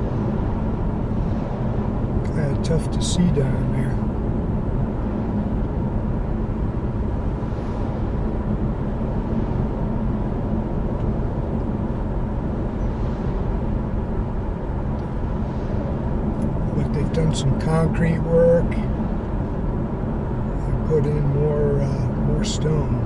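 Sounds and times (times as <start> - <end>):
road and engine noise inside car: 0.0 - 23.0.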